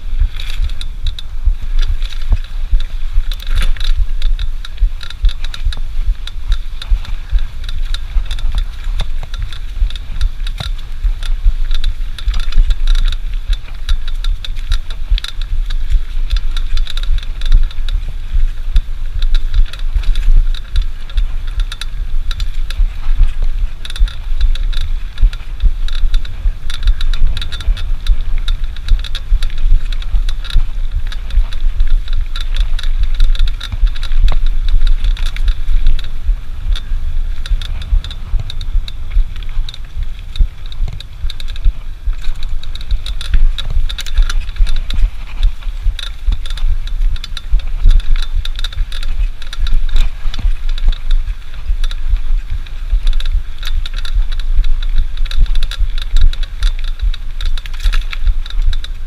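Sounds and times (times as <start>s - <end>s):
wind rumble: 0.0s - 59.0s
camera mount rattling: 0.1s - 59.0s.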